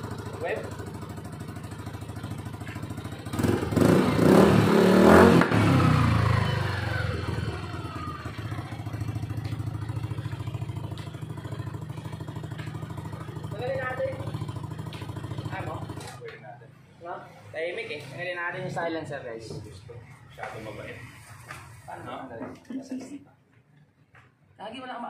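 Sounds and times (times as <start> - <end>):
scooter engine idling and revving: 0.0 - 22.3.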